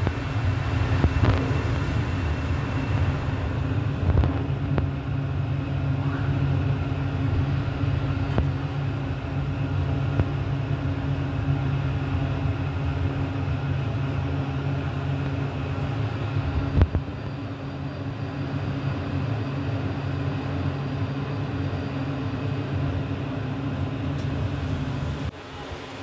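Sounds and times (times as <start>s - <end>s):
elevator pump motor humming: 0.0s - 26.0s.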